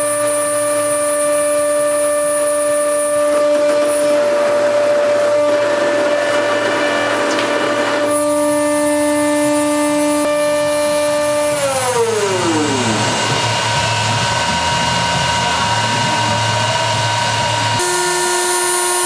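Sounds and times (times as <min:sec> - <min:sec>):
rough metal cutting noise: 0:00.0 - 0:19.0
router spindle whine: 0:00.0 - 0:19.0.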